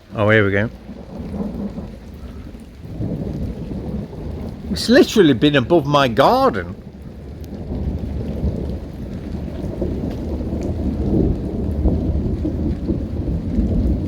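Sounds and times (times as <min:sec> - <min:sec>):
rain falling: 0:00.0 - 0:14.0
rumbling thunder: 0:00.0 - 0:14.0.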